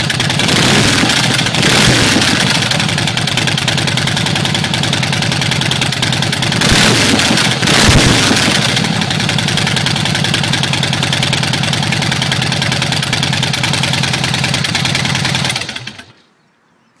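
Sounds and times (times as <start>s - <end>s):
motorcycle engine idling and revving: 0.0s - 16.2s.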